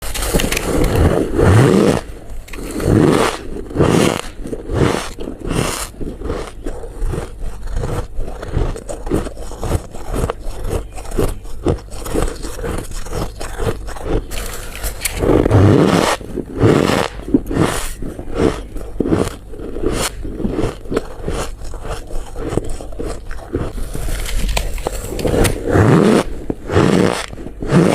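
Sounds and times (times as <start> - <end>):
ice crunching being chewed: 0.0 - 27.9.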